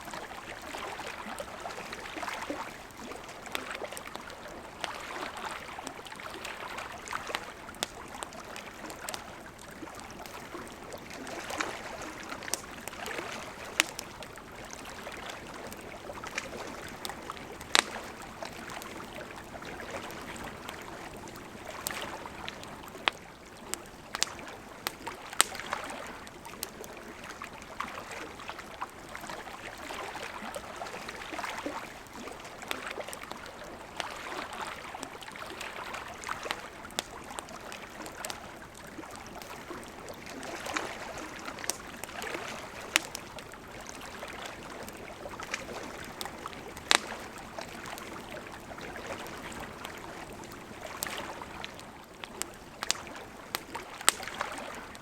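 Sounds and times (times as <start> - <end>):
campfire crackling and popping: 0.0 - 55.0
small waves lapping at shore: 0.0 - 55.0.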